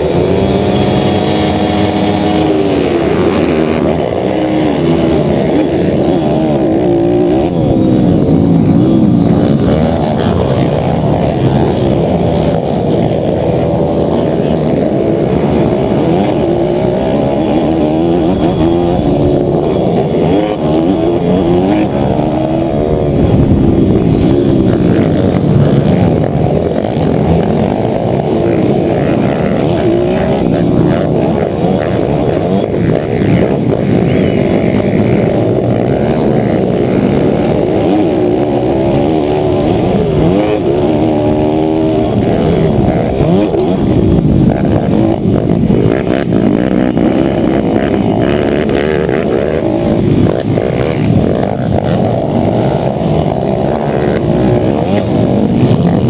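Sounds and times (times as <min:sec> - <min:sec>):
motocross bike engine revving: 0:00.0 - 0:56.0
other motorbike engines: 0:00.0 - 0:56.0.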